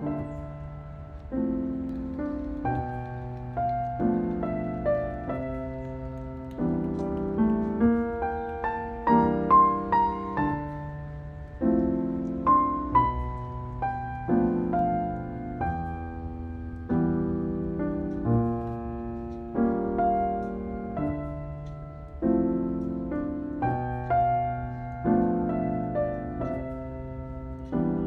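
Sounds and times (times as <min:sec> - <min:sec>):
gentle piano piece: 0:00.0 - 0:28.0.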